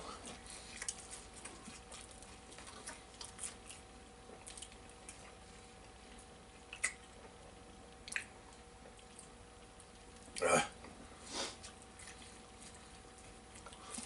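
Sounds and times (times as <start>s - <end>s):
faint steady hum: 0.0s - 14.0s
people chewing and smacking: 0.0s - 14.0s.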